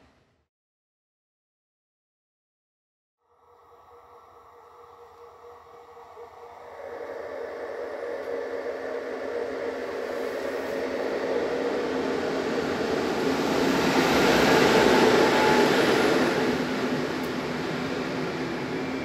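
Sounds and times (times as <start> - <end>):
passenger train rumbling: 3.4 - 19.0.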